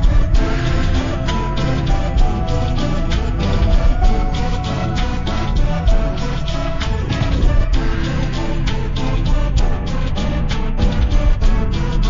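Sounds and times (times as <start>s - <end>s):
music with fast beat and heavy bass: 0.0s - 12.0s.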